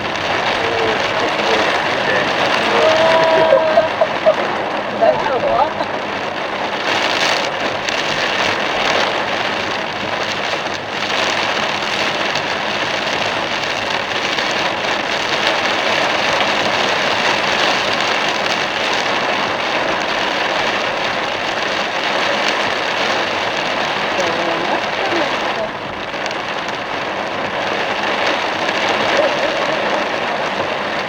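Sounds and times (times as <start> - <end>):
torrential rain on a car: 0.0 - 31.0.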